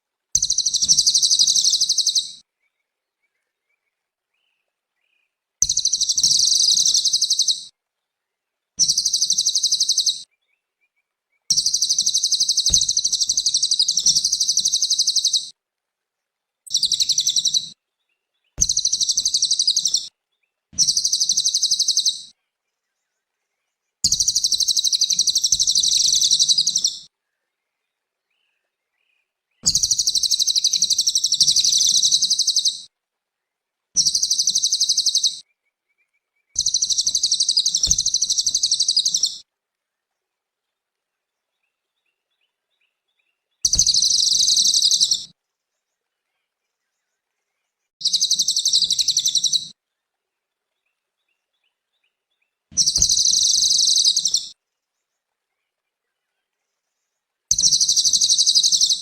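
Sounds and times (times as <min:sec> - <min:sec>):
songbird chattering song: 0:00.4 - 0:15.5, 0:16.7 - 0:32.9, 0:34.0 - 0:39.4, 0:41.3 - 0:50.0, 0:50.7 - 0:59.0.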